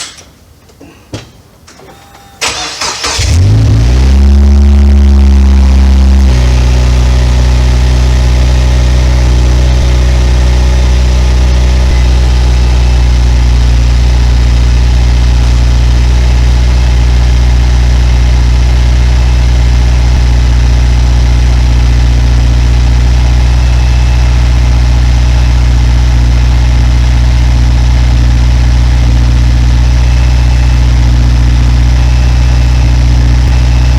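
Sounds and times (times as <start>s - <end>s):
car engine starting and idling: 1.6s - 33.9s.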